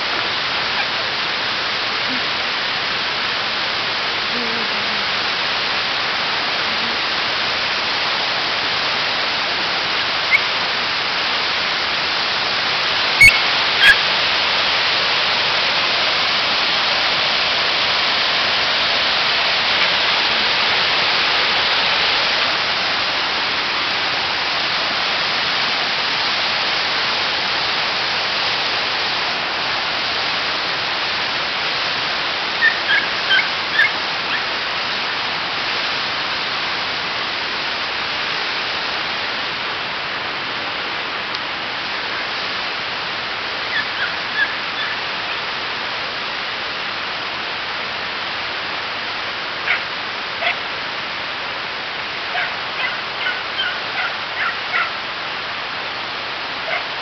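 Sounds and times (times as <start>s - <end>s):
stream cascading over rocks: 0.0s - 57.0s.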